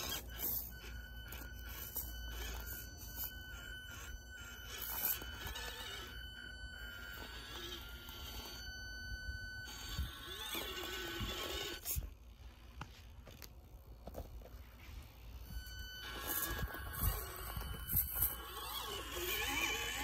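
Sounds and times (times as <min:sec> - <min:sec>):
toy car electric motor whining: 0:00.0 - 0:20.0.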